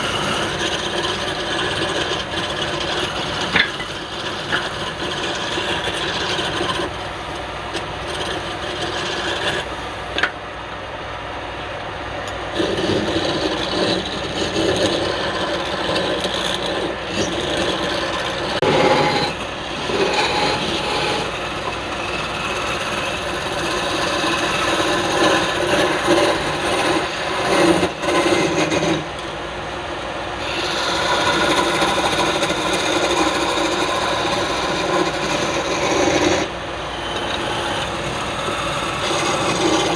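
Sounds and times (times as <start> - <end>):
turning tool scraping wood: 0.0 - 10.3, 12.3 - 29.6, 30.4 - 39.9
wood lathe running: 0.0 - 10.3, 12.3 - 39.9.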